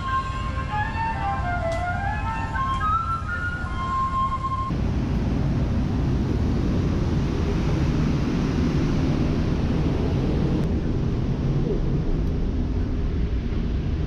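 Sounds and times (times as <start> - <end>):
ferry engines rumbling: 0.0 - 14.0.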